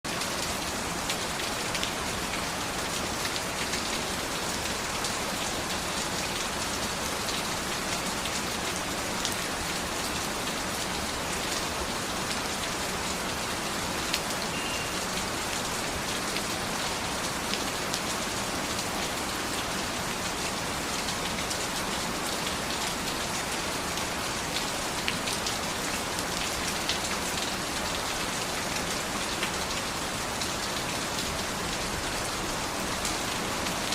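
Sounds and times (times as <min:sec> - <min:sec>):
rain pattering on a surface: 0:00.1 - 0:33.9.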